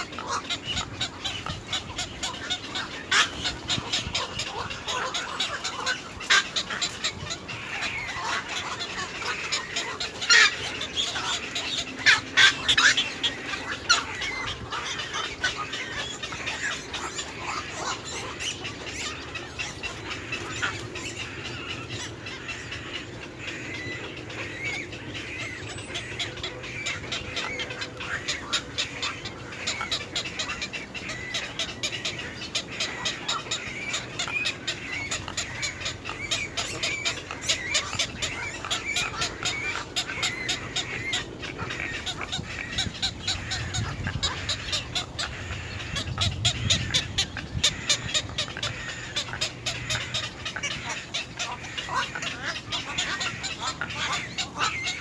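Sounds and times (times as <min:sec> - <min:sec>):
birds chirping and clicking: 0:00.0 - 0:55.0.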